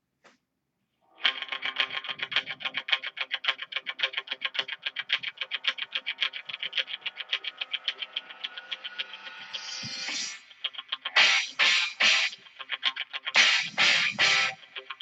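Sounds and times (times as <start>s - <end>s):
electric guitar picking fast notes: 1.2s - 15.0s.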